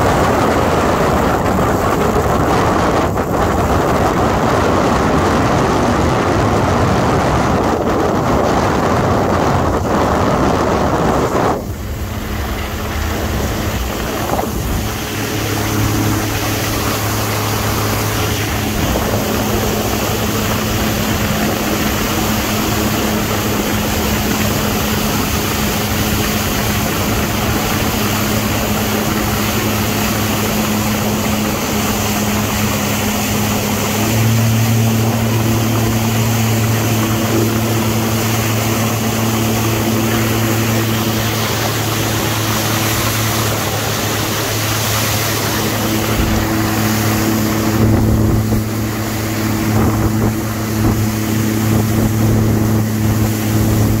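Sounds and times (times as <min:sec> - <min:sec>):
jet ski engine running: 0:00.0 - 0:54.0
rush of wind and water: 0:00.0 - 0:54.0.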